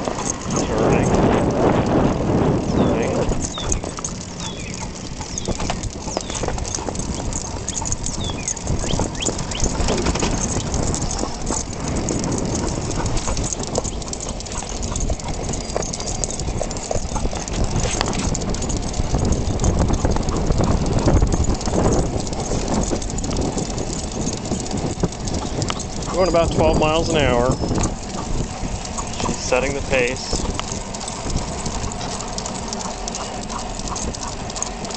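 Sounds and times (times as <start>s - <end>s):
dog paws clicking on pavement: 0.0s - 34.9s
wind and road rumble: 0.0s - 34.9s.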